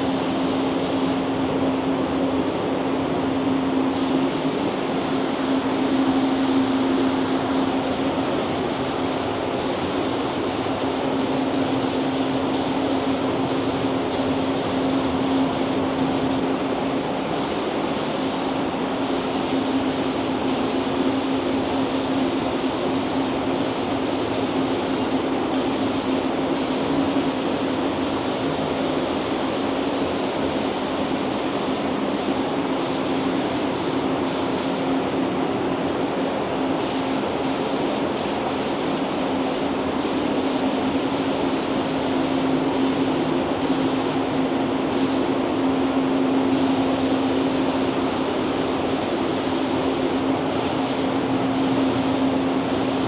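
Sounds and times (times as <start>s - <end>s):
steady hum: 2.5s - 53.0s
spray gun hissing: 3.9s - 16.4s, 17.3s - 35.2s, 35.9s - 53.0s.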